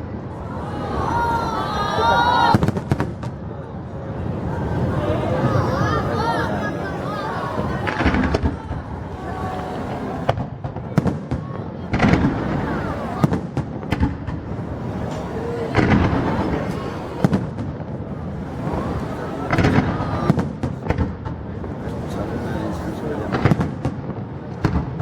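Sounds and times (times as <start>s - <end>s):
fireworks bursting: 2.2s - 3.5s, 4.3s - 22.2s, 23.2s - 25.0s.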